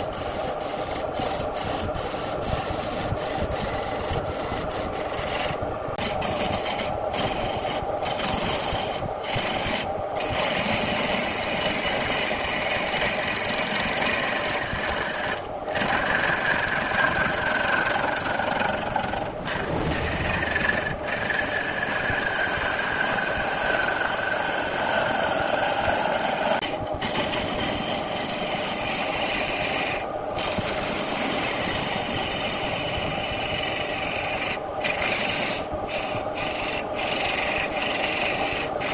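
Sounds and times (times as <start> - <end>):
lathe chisel scraping wood: 0.0 - 38.9.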